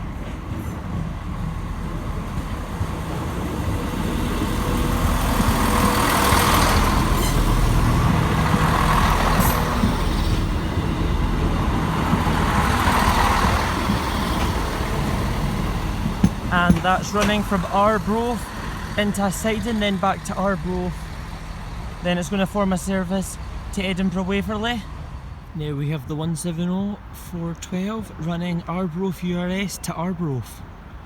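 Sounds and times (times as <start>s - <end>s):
diesel train engine rumble: 0.0s - 31.0s.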